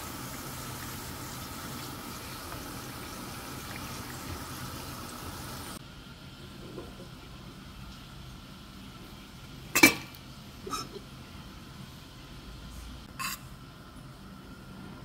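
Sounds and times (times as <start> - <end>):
food deep-frying in oil: 0.0 - 13.6
kitchen background: 0.0 - 15.0.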